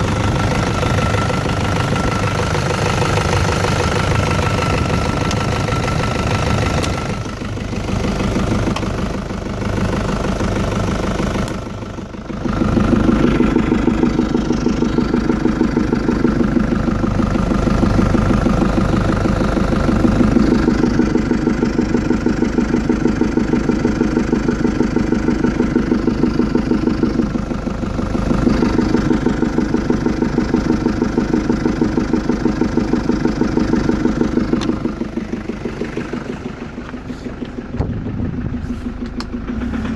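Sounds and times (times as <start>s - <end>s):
engine idling: 0.0s - 39.9s
rhythmic engine knocking: 0.0s - 39.9s.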